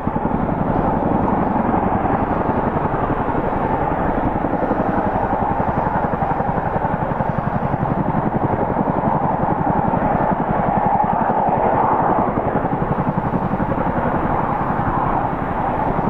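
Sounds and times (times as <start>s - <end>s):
helicopter rotor blade chop: 0.0s - 16.0s.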